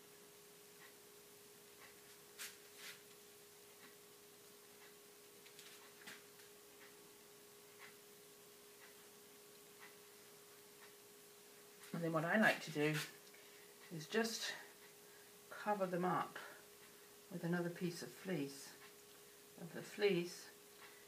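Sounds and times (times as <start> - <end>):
faint steady hum: 0.0 - 21.0
soft ticking: 0.2 - 21.0.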